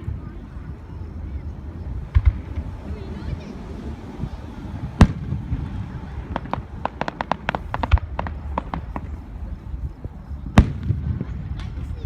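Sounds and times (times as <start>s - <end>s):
fireworks crackling: 1.2s - 12.0s.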